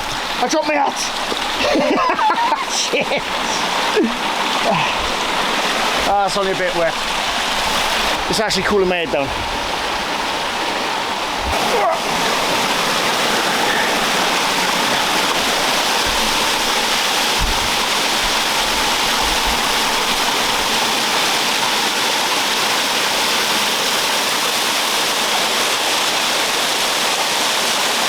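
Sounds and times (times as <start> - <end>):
waterfall rushing and splashing: 0.0 - 28.0.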